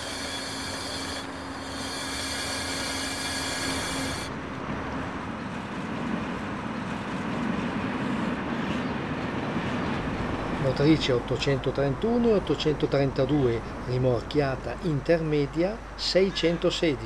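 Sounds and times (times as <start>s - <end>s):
city street noise: 0.0s - 17.0s
electric trains whining: 0.0s - 17.0s
tram passing: 0.0s - 17.0s.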